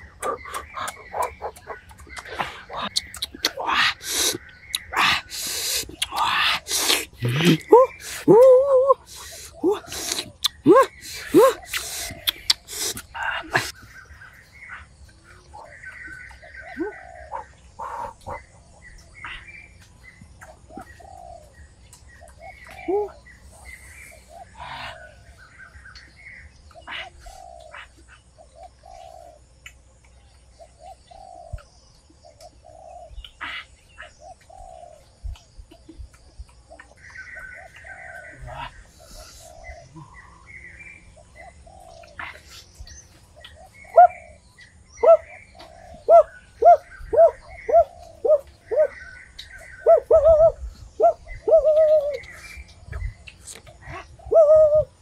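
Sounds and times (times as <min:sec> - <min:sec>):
forest birds calling: 0:00.0 - 0:55.0.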